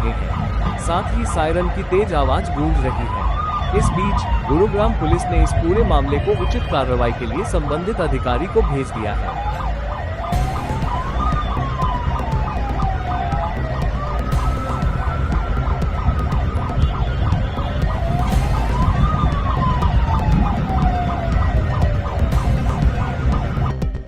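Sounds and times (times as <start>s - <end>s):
heavy low rumble: 0.0s - 8.5s, 10.4s - 24.0s
fast pulsing siren: 0.0s - 24.0s
second siren tone: 0.0s - 24.0s
wailing siren: 0.0s - 24.0s.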